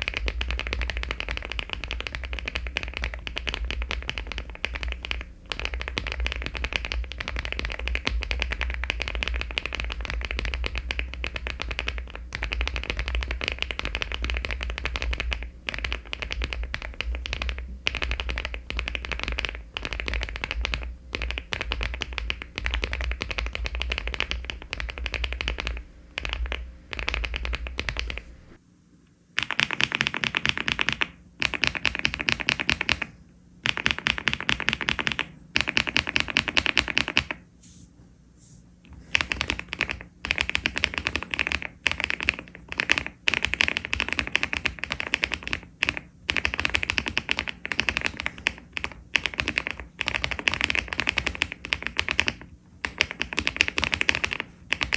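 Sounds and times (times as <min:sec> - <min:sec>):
fast typing on mechanical keyboard: 0:00.0 - 0:28.6, 0:29.4 - 0:37.4, 0:39.0 - 0:54.9.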